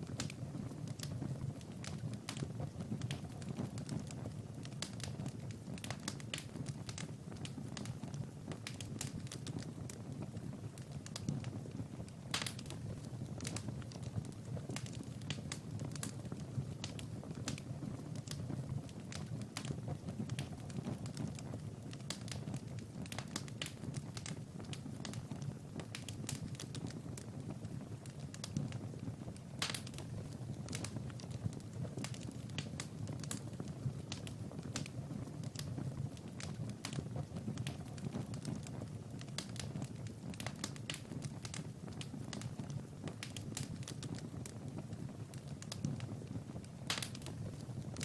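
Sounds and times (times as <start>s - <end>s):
wood fire crackling and popping: 0.0s - 48.0s.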